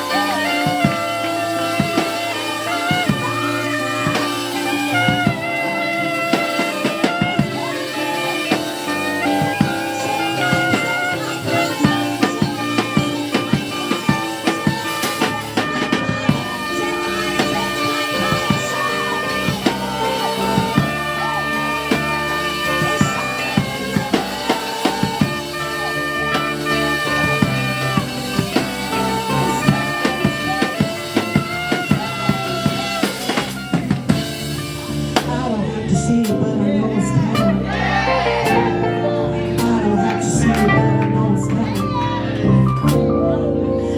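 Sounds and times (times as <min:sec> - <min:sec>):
drum kit beat: 0:00.0 - 0:43.1
gospel band playing: 0:00.0 - 0:43.9.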